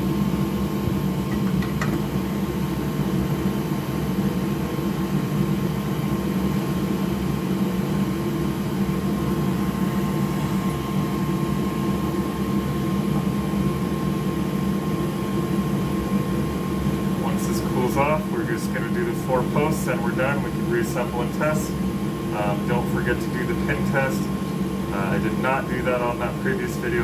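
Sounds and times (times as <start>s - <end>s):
electric blower fan whirring: 0.0s - 27.0s.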